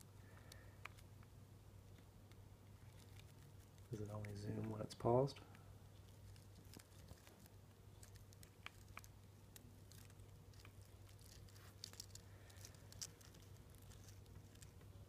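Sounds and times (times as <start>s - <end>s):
steady low hum: 0.0s - 15.0s
faint little clicks and ticks: 0.2s - 4.8s, 5.4s - 15.0s.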